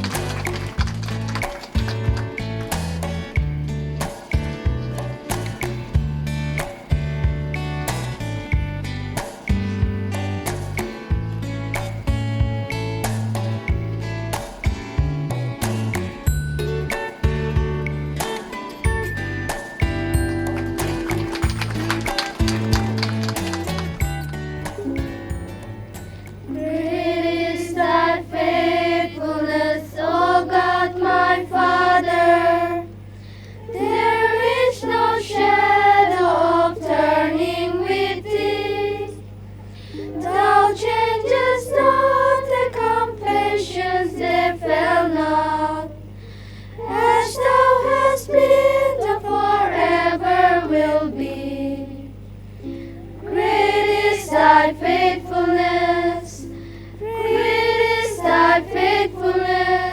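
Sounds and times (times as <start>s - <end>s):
choir singing with music: 0.0s - 59.9s.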